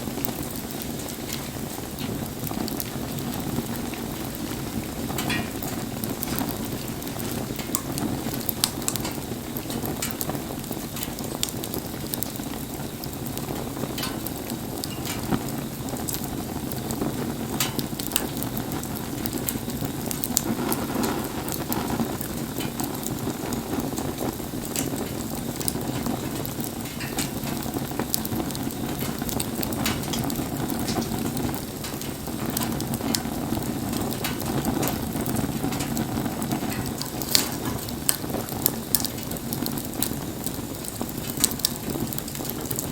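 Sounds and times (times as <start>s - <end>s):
bonfire crackling and popping: 0.0s - 42.9s
sizzling hiss: 0.0s - 42.9s.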